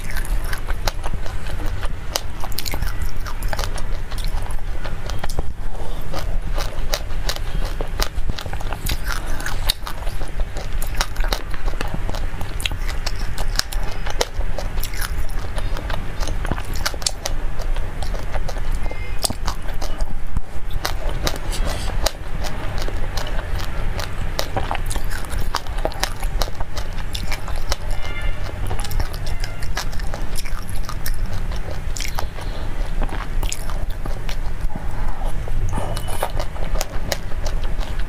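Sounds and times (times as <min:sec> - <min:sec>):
crunchy chewing clicks: 0:00.0 - 0:38.0
steady low hum: 0:00.0 - 0:38.0.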